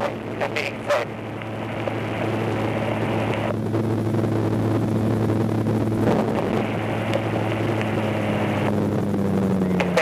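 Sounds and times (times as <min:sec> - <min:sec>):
airflow rushing: 0:00.0 - 0:09.9
gyroplane engine droning: 0:00.0 - 0:10.0.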